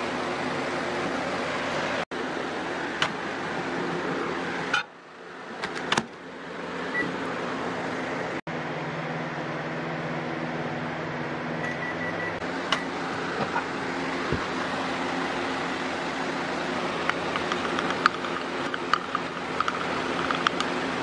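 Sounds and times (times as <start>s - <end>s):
fan-like hum: 0.0s - 21.0s
microwave running hum: 0.0s - 21.0s.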